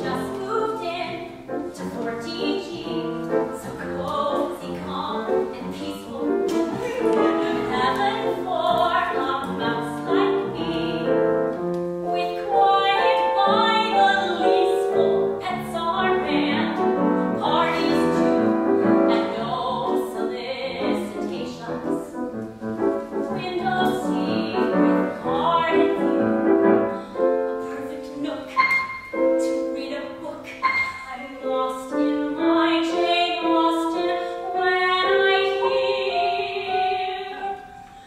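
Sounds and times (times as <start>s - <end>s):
grand piano accompaniment: 0.0s - 38.0s
soprano singing: 0.0s - 38.0s.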